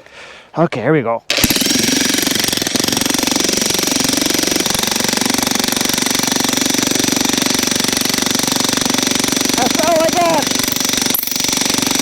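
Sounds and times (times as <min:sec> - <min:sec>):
jackhammer hammering into wood: 0:01.3 - 0:12.0.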